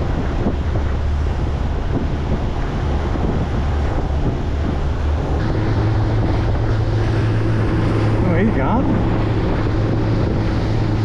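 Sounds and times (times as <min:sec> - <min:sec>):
boat rumble on water: 0:00.0 - 0:11.0
low engine hum: 0:00.0 - 0:11.0
wind buffeting microphone: 0:00.0 - 0:11.0.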